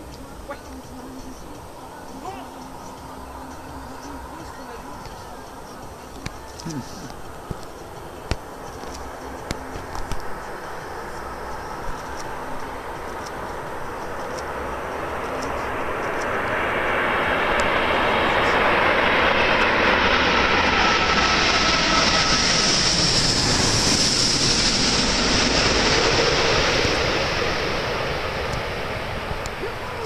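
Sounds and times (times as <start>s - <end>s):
jet engines roaring past: 0.0s - 30.0s.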